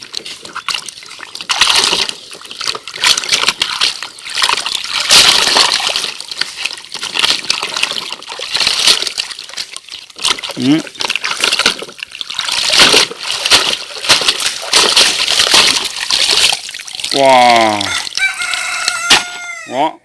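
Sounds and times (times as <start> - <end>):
water sloshing and splashing: 0.0 - 19.7.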